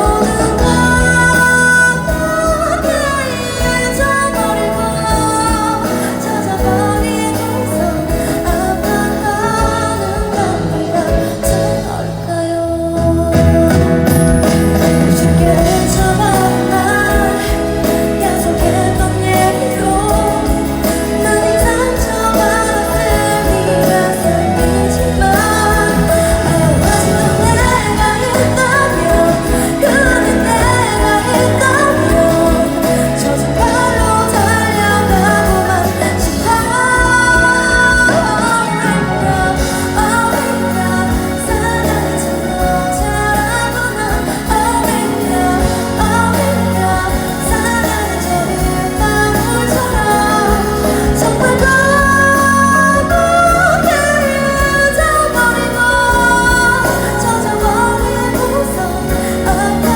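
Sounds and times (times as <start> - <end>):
instrumental accompaniment: 0.0 - 59.9
woman singing pop song: 0.0 - 59.9.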